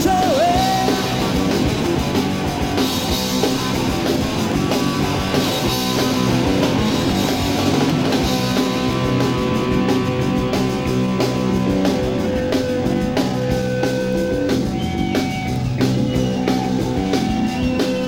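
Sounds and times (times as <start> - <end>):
bass guitar: 0.0 - 18.0
distorted electric guitar: 0.0 - 18.0
drums: 0.0 - 18.0.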